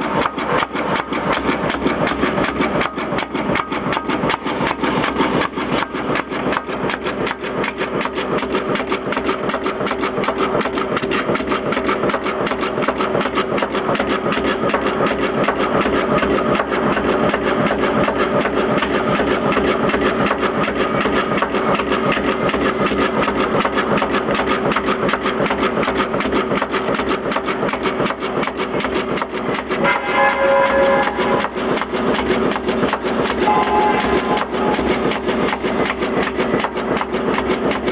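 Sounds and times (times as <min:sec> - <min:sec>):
cutting machine clattering: 0:00.0 - 0:37.9.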